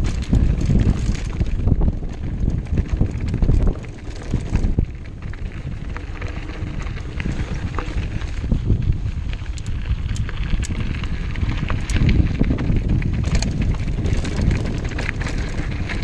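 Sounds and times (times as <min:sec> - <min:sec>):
bike rattling and clicking: 0:00.0 - 0:16.0
tyres crunching over stones: 0:00.0 - 0:16.0
wind buffeting microphone: 0:00.0 - 0:16.0.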